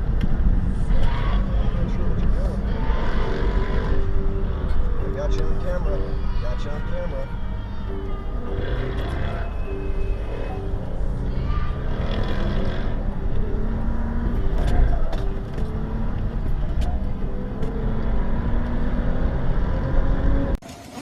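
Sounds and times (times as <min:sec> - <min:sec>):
car engine humming: 0:00.0 - 0:20.6
road noise: 0:00.0 - 0:21.0.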